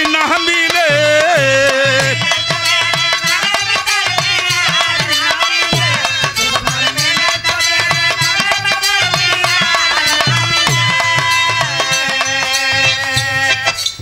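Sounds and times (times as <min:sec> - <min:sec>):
barrel drums playing rhythm: 0:00.0 - 0:14.0
instrumental melody line: 0:00.0 - 0:14.0.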